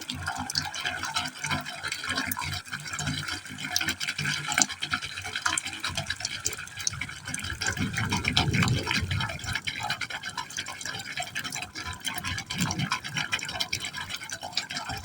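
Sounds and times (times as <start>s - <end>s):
water splashing and gurgling in pipe: 0.0s - 15.0s.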